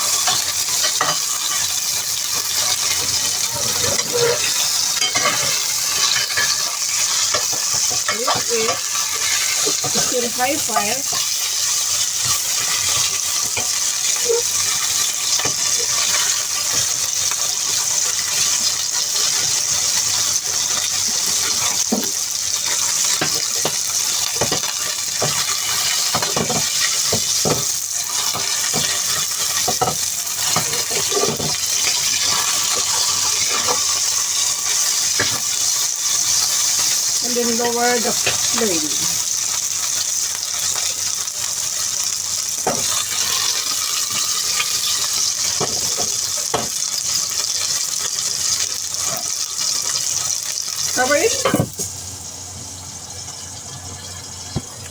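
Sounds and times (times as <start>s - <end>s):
meat sizzling in a frying pan: 0.0s - 54.9s.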